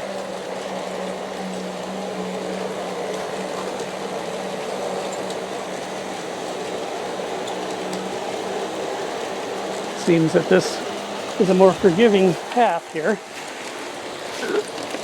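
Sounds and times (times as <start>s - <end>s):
model locomotive motor hum: 0.0s - 15.0s
model train wheels rumbling: 0.0s - 15.0s.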